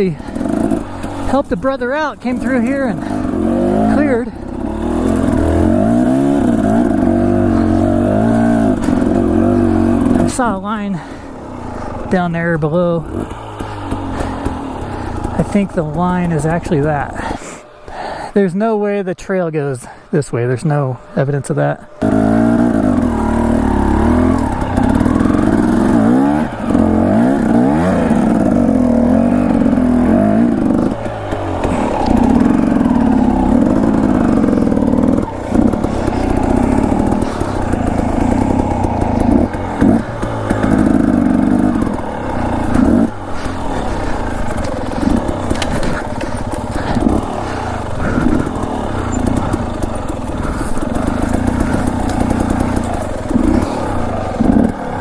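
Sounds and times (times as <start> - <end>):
dirt bike engine revving: 0.0 - 19.0, 19.6 - 55.0.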